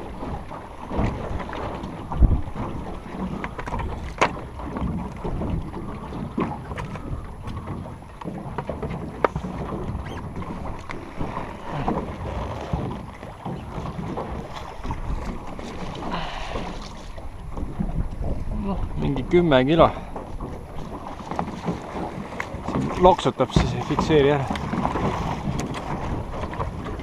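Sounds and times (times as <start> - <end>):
water slapping against boat: 0.0 - 27.0
wind buffeting microphone: 0.0 - 27.0.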